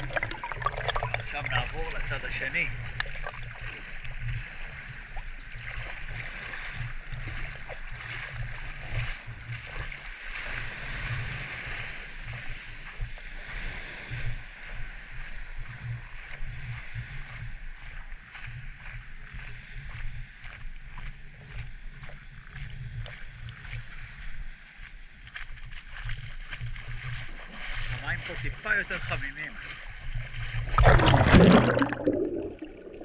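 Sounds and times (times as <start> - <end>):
waves washing onto shore: 0.0 - 20.5, 21.2 - 33.0
wind rumbling on microphone: 0.0 - 33.0.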